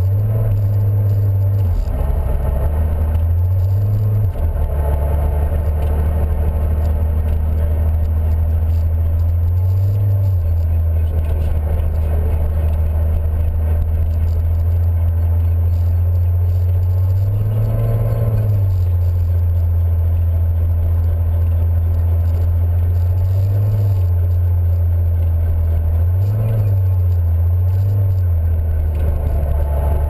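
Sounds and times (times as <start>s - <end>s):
car engine droning: 0.0s - 30.0s
road and tyre noise: 0.0s - 30.0s.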